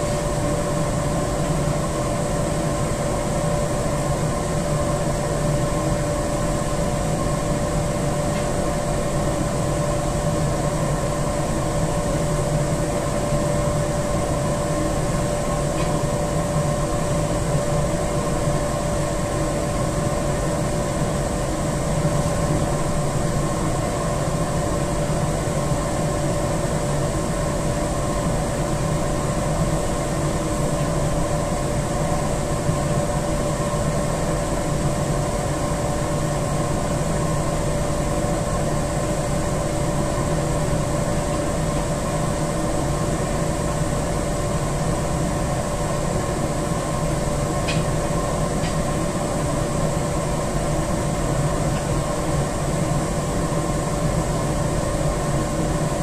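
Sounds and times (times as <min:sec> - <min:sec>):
industrial machinery humming: 0:00.0 - 0:56.0.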